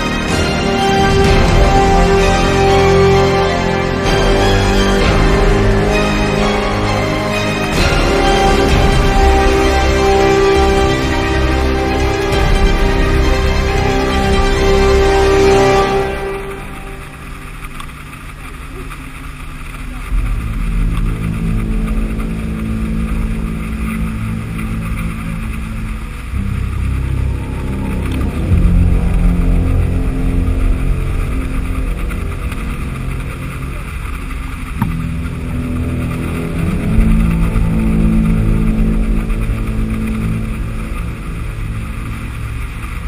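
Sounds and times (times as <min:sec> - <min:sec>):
motorboat engine running: 0:00.0 - 0:43.0.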